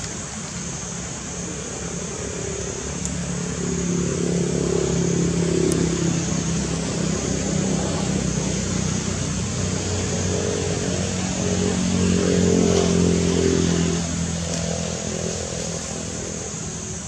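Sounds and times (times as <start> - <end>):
engine running: 0.0 - 17.0
outdoor background noise: 0.0 - 17.0.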